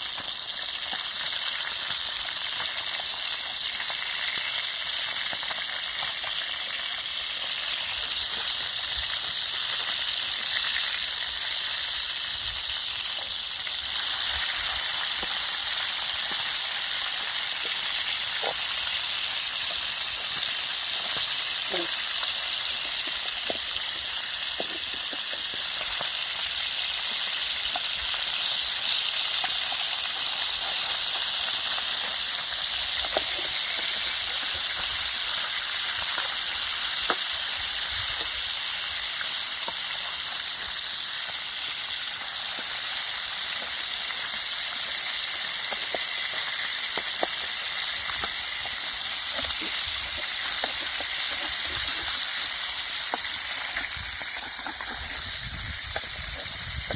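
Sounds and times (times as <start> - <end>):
crackles and pops: 0.0 - 56.9
fish sizzling in a pan: 0.0 - 56.9.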